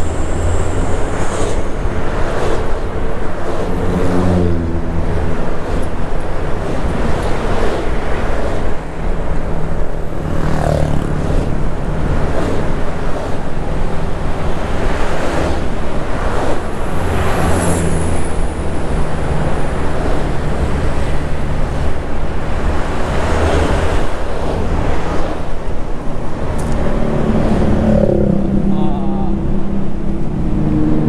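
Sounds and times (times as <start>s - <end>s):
bus engine running: 0.0s - 31.0s
wind rushing over microphone: 0.0s - 31.0s.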